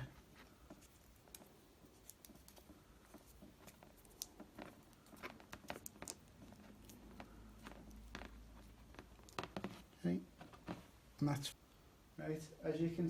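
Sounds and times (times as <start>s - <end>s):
insulation tape crinkling and clicking: 0.0s - 10.9s.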